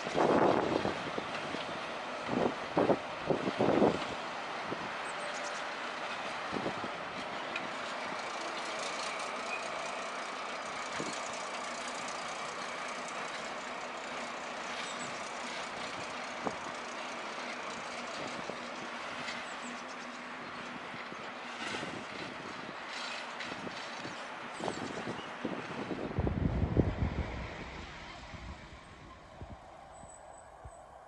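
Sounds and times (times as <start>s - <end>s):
locomotive engine running: 0.0s - 31.0s.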